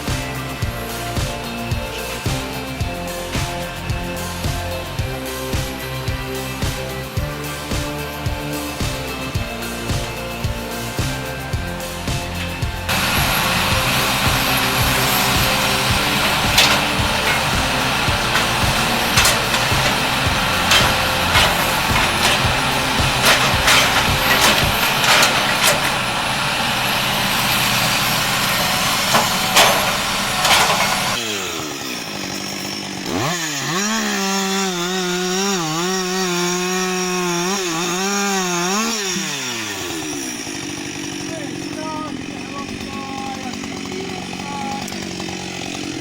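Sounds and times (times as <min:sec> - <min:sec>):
chainsaw revving: 0:00.0 - 0:46.0
wood-cutting machine cracking: 0:00.0 - 0:46.0.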